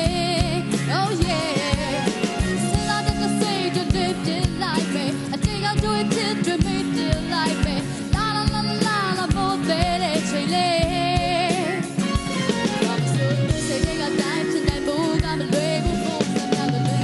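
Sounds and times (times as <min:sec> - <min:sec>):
live band playing pop ballad: 0:00.0 - 0:17.0
woman singing: 0:00.0 - 0:17.0.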